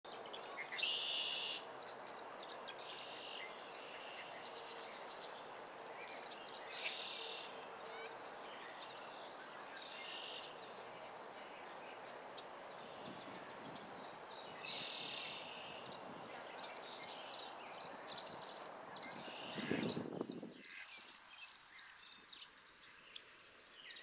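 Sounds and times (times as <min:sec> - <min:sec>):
outdoor background noise: 0:00.1 - 0:24.0.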